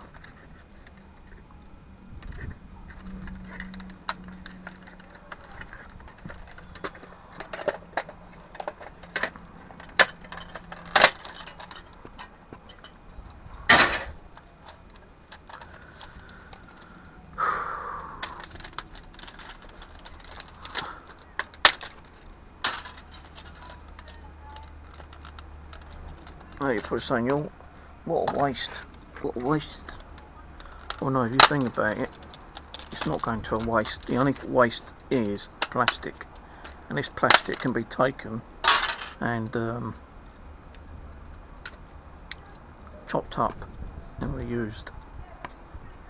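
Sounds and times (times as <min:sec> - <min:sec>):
small parts clicking and clinking: 0:00.0 - 0:46.0.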